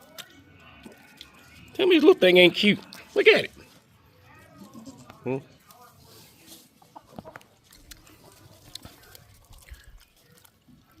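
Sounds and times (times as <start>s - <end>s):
farm animals crunching feed: 0.0s - 11.0s.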